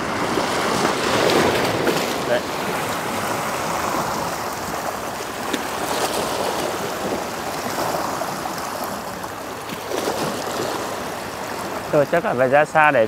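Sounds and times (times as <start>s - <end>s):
waves splashing against rocks: 0.0s - 13.0s.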